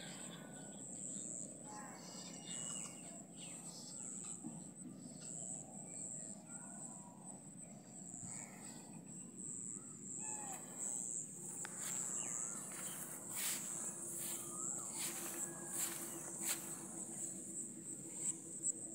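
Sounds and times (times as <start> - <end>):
insects trilling: 0.0 - 18.9
low outdoor hum: 0.0 - 18.9.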